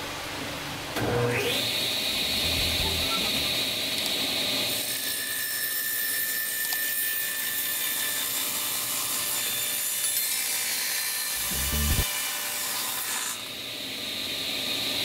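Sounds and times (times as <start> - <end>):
power saw cutting wood: 1.0 - 13.6.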